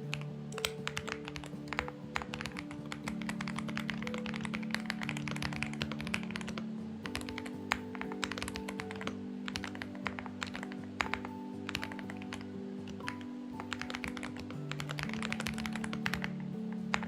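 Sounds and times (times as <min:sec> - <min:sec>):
soft background music: 0:00.0 - 0:17.0
mechanical keyboard typing: 0:00.1 - 0:17.0.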